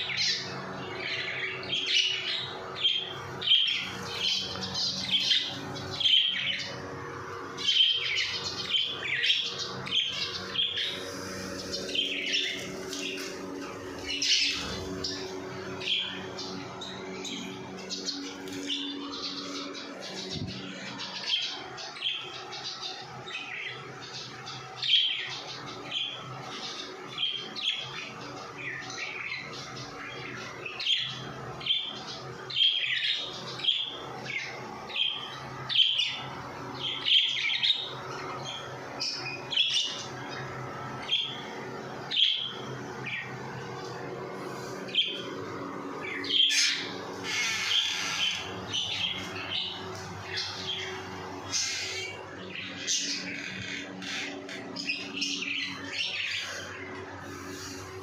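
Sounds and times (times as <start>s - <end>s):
finches chirping: 0.0s - 58.0s
steady low hum: 0.0s - 58.0s.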